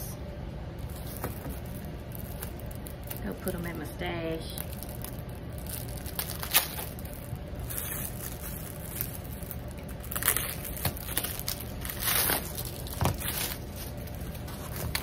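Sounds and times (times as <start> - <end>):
plastic wrapping crinkling and tearing: 0.8 - 15.0
plastic scrunched in hands: 0.9 - 15.0.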